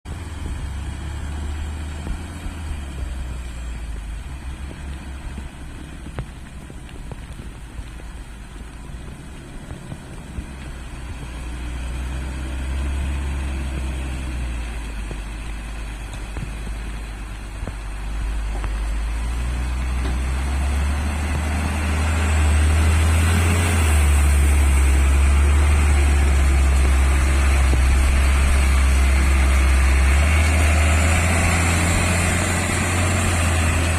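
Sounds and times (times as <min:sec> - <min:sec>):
truck diesel engine rumbling: 0:00.0 - 0:33.9.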